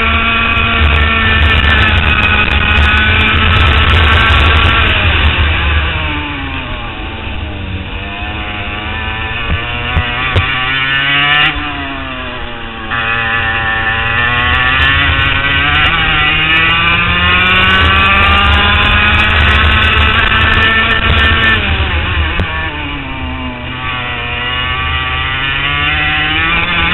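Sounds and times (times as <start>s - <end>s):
kart engine revving: 0.0s - 26.9s.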